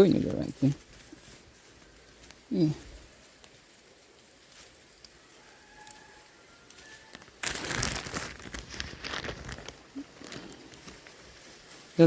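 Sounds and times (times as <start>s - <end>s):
foliage rustling and crackling: 0.0s - 12.0s.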